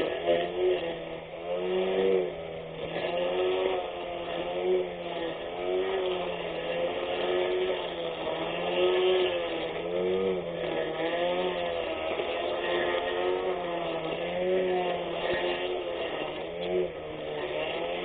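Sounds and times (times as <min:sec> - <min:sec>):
electric lawn mower motor whine: 0:00.0 - 0:18.0.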